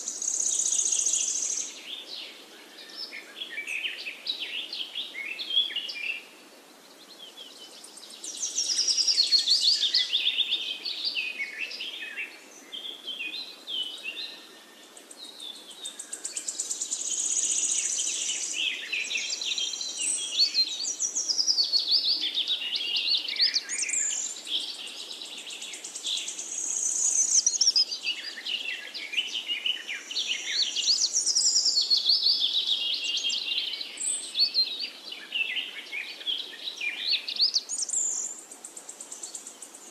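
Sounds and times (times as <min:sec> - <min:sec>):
birds chirping and singing: 0:00.0 - 0:06.3, 0:07.0 - 0:39.9.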